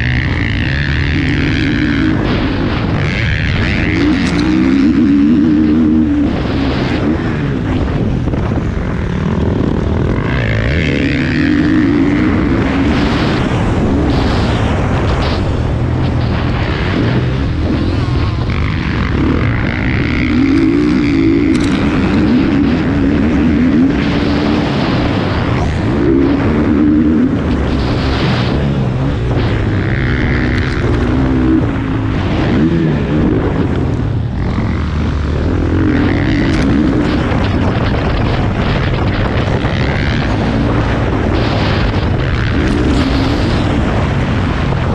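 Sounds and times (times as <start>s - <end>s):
motorbike engine racing: 0.0s - 44.9s.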